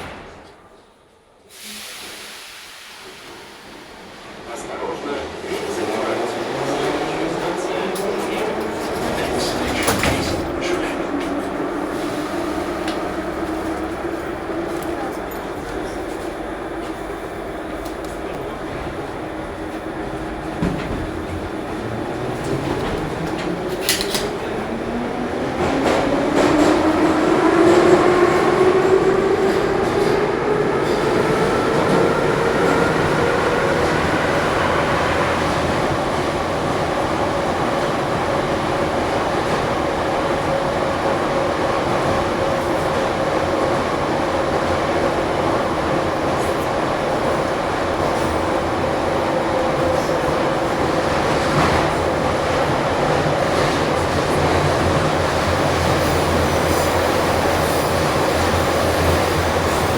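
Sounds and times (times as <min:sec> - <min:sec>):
train running noise: 0:00.0 - 0:59.9.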